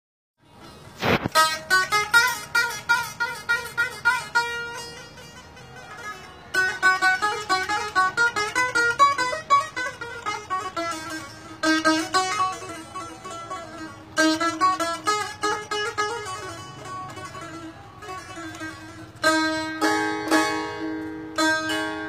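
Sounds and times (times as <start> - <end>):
plucked lute melody: 0.5 - 22.0.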